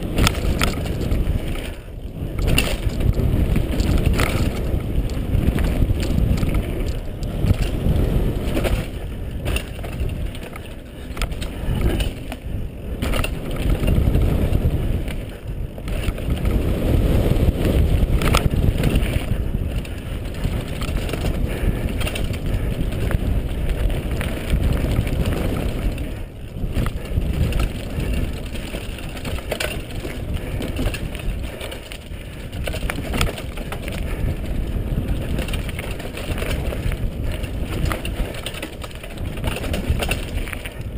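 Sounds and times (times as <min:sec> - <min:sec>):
bike rattling and knocking: 0:00.0 - 0:40.9
tyres rumbling on dirt: 0:00.0 - 0:40.9
wind on microphone: 0:00.0 - 0:40.9.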